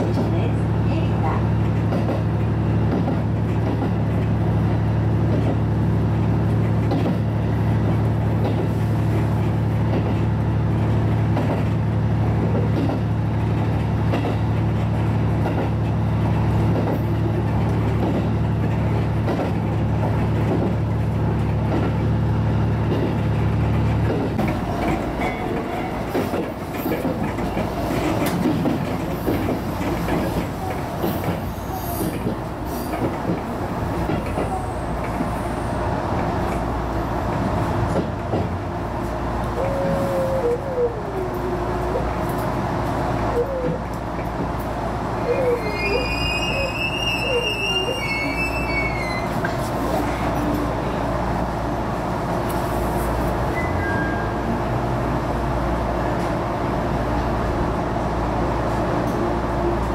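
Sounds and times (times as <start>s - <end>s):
train wheels clattering on rails: 0.0s - 54.6s
railcar engine drone: 0.0s - 59.9s.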